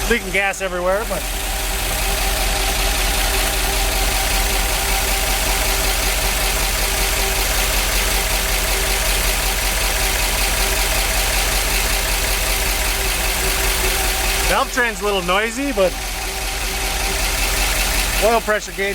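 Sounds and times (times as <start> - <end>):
noisy valve train: 0.0 - 18.9
truck engine idling: 0.0 - 18.9.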